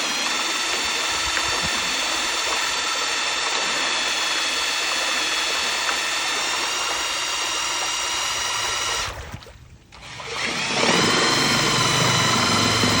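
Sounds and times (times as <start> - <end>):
electric motor whine: 0.0 - 9.2, 9.9 - 13.0.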